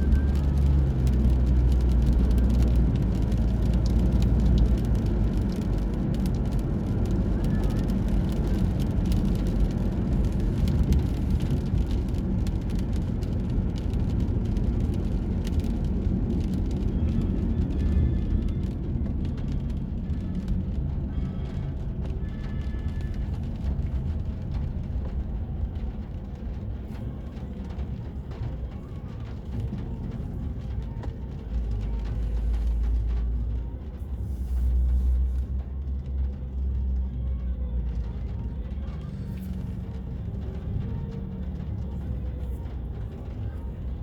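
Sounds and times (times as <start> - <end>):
car rumble while driving: 0.0 - 44.0.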